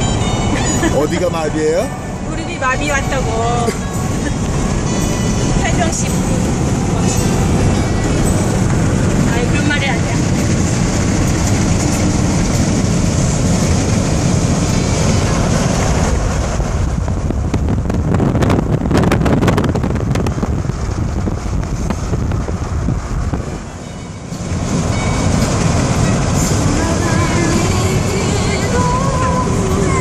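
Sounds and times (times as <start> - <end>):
car road and wind noise: 0.0 - 30.0.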